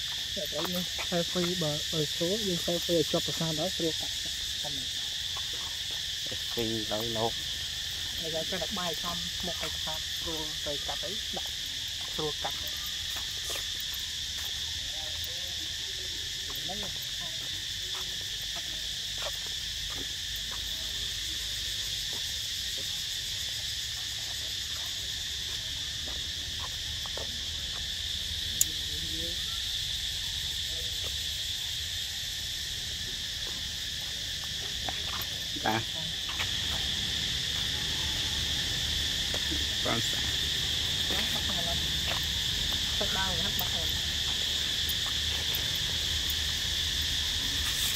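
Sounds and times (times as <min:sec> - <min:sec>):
forest insects droning: 0:00.0 - 0:47.9.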